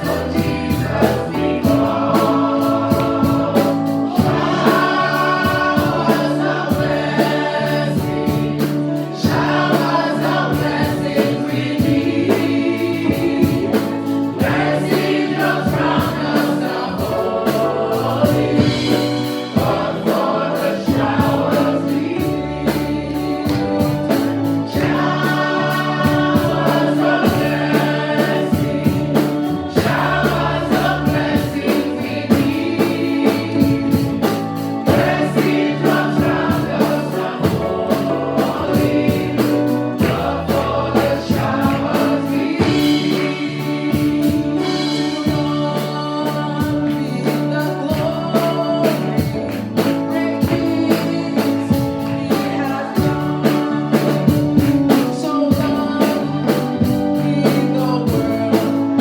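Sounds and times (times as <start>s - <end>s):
band with bass and beat: 0.0s - 59.0s
choir singing: 0.0s - 59.0s.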